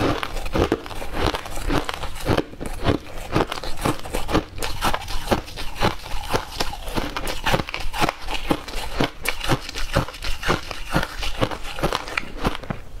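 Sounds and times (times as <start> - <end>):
crushed ice crunched between teeth: 0.0 - 12.8.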